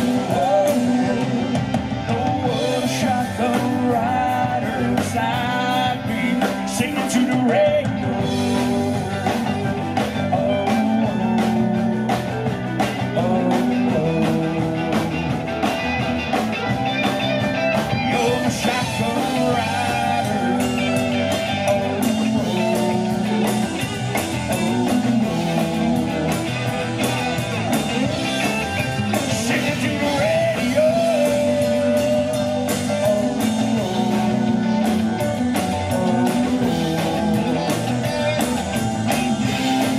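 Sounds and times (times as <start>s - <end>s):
person singing: 0.0s - 15.7s, 17.8s - 27.2s, 28.0s - 39.9s
country rock band playing: 0.0s - 39.9s.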